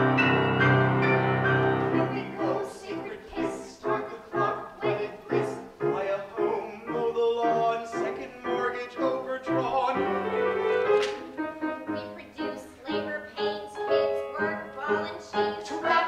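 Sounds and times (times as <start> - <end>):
piano accompaniment: 0.0 - 16.0.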